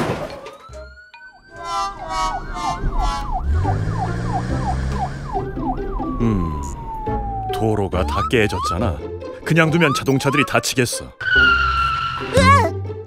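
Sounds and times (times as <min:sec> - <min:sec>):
siren yelping: 0:00.4 - 0:12.6.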